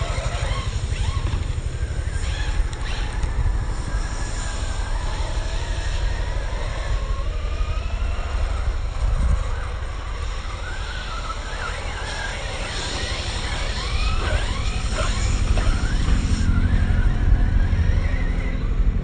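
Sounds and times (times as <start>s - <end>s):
low steady rumble: 0.0s - 19.0s
rc car motors whining: 0.0s - 19.0s.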